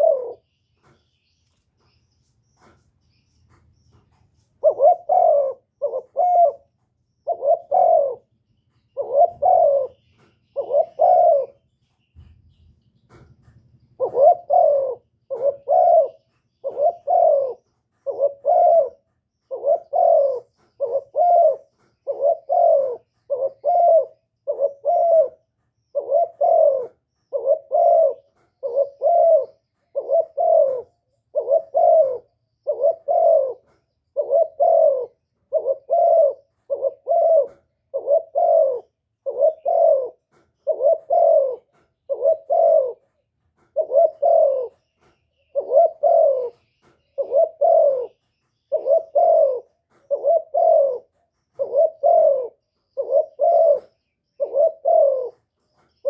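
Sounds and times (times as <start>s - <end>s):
dove cooing: 0.0s - 2.0s, 2.6s - 56.0s.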